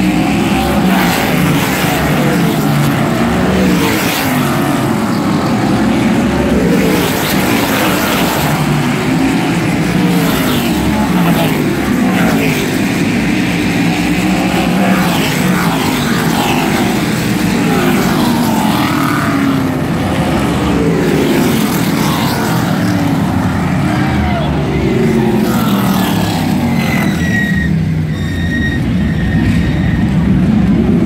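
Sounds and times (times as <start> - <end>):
race cars passing at full speed: 0.0 - 31.0.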